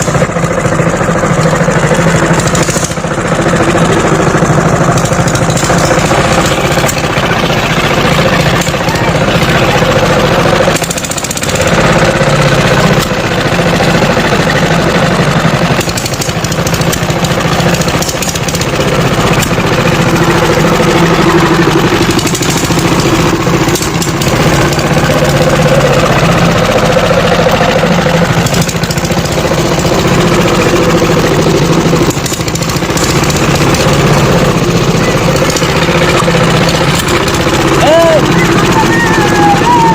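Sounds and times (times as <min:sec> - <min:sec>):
tiller engine knocking: 0:00.0 - 0:39.9.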